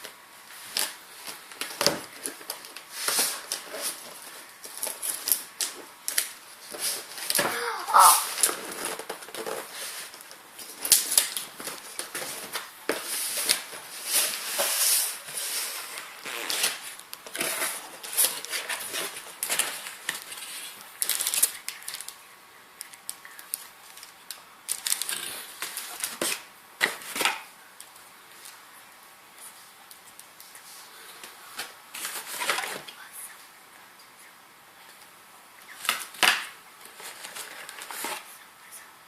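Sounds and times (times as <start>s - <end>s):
cardboard and plastic rustling: 0.0s - 22.2s, 22.9s - 28.7s, 29.5s - 33.1s, 35.7s - 38.4s.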